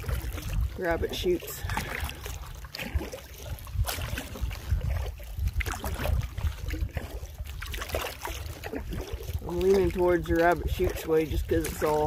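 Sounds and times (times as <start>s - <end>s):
paddle splashing water: 0.0s - 12.0s
water against canoe hull: 0.0s - 12.0s
wind rumble on microphone: 0.0s - 12.0s.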